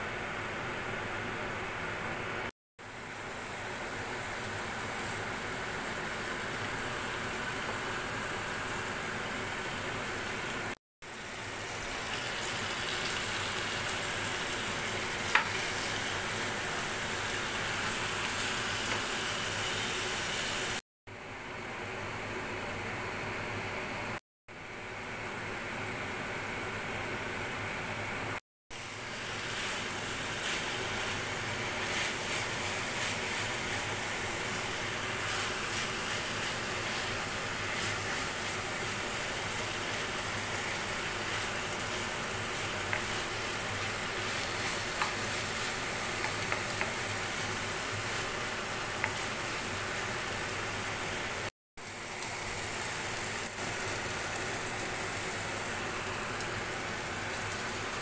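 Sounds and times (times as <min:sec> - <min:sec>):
food sizzling in a pan: 0:02.8 - 0:20.8, 0:28.7 - 0:58.0.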